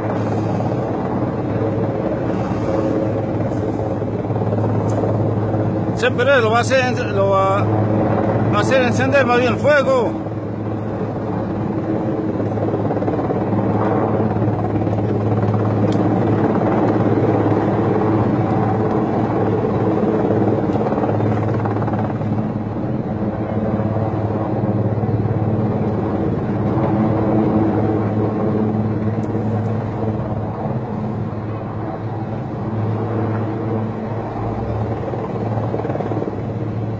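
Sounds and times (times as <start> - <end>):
helicopter hovering: 0.0 - 36.9.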